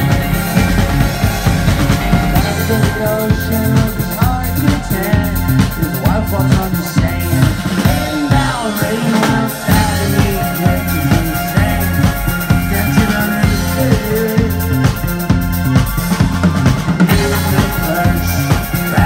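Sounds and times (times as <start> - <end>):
bass line: 0.0 - 19.0
drum kit: 0.0 - 19.0
electric guitar bending notes: 0.0 - 19.0
keyboard: 0.0 - 19.0.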